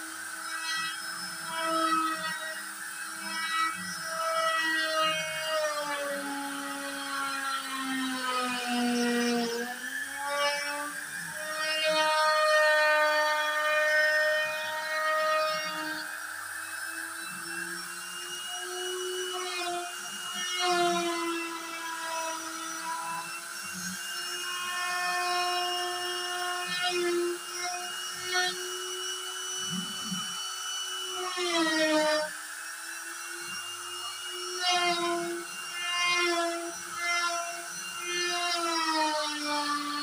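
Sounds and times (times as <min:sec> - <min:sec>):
motors whining in pitch: 0:00.0 - 0:40.0
router spindle whining: 0:00.0 - 0:40.0.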